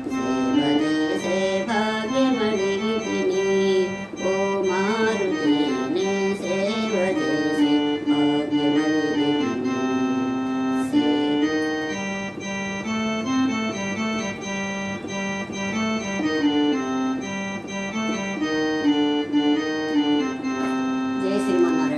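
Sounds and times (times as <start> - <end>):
electronic keyboard melody: 0.0 - 21.9.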